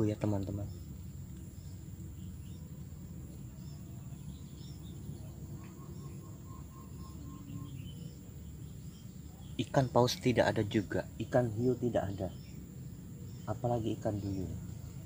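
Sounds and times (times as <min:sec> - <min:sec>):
bird chirps: 0:00.0 - 0:15.0
high insect drone: 0:00.0 - 0:15.0.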